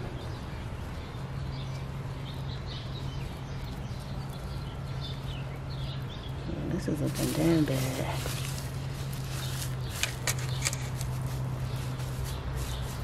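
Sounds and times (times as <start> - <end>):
birds chirping: 0.0 - 13.0
steady low hum: 0.0 - 13.0
straw mulch rustling and crunching: 0.5 - 13.0.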